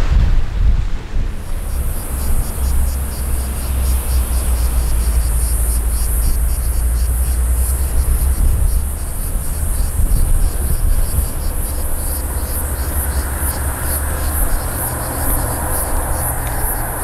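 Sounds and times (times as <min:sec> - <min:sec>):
steady low rumble: 0:00.0 - 0:17.0
cicadas buzzing: 0:01.3 - 0:17.0.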